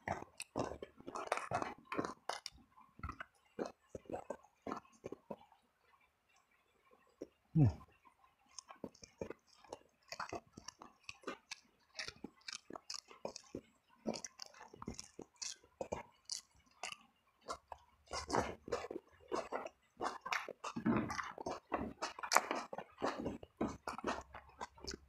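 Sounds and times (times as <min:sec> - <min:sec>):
chewing and biting food: 0:00.0 - 0:25.0.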